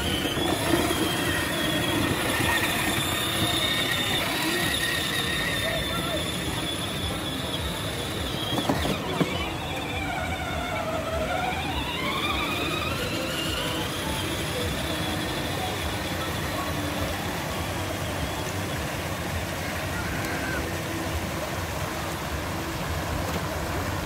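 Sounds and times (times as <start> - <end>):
electric motor whine: 0.0 - 19.6
fountain splashing: 0.0 - 24.0.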